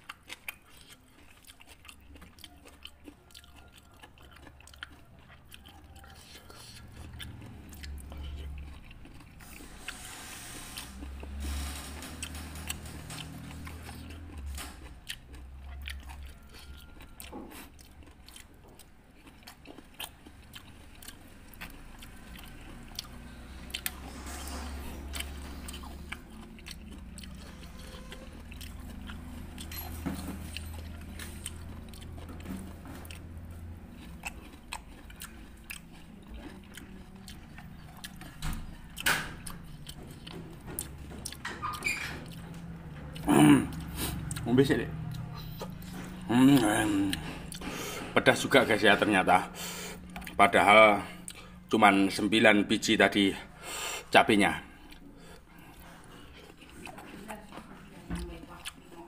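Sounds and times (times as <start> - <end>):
chewing and crunching fruit: 0.0 - 59.0.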